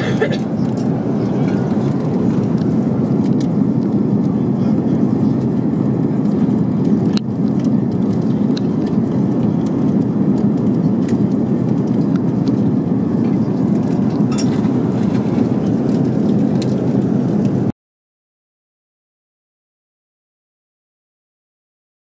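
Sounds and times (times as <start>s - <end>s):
airplane cabin airflow and engine: 0.0s - 17.8s.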